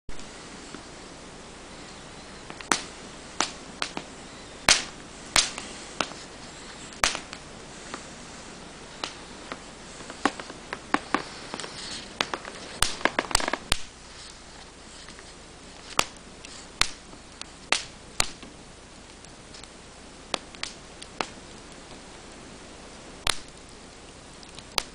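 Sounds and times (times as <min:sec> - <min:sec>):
wood fire crackling: 0:00.1 - 0:24.9.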